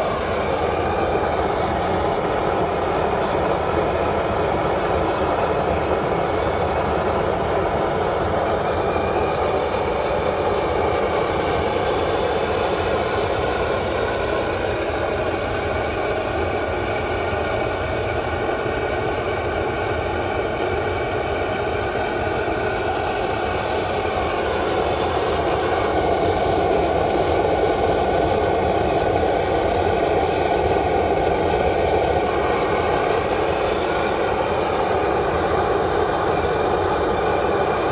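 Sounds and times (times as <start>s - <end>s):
gas burner roaring: 0.0s - 37.9s.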